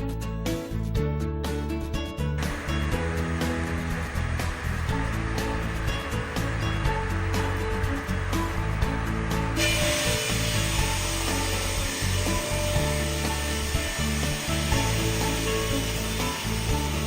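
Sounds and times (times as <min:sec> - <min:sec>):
background music: 0:00.0 - 0:17.0
saw machine cutting log: 0:02.4 - 0:17.0.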